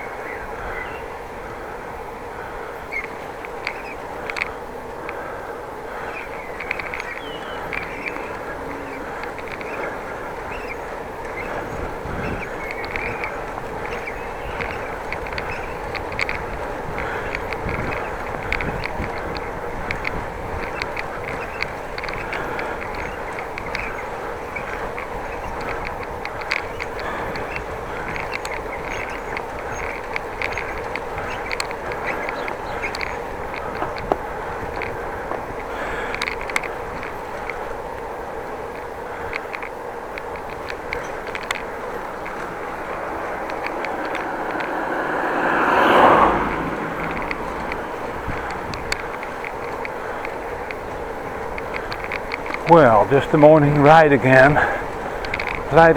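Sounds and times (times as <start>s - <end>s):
bicycle rolling: 0.0s - 55.9s
wind noise: 0.0s - 55.9s.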